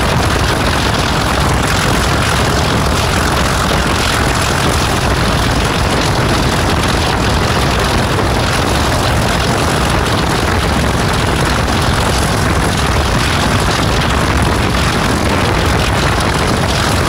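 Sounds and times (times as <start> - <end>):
locomotive diesel engine rumbling: 0.0 - 17.0.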